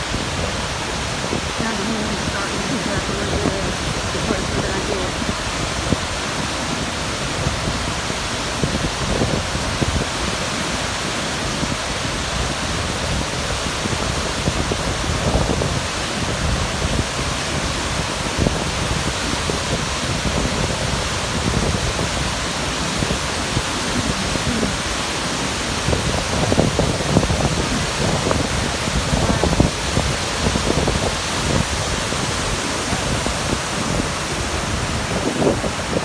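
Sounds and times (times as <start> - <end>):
waterfall rushing: 0.0 - 36.0
wind buffeting microphone: 0.0 - 36.0.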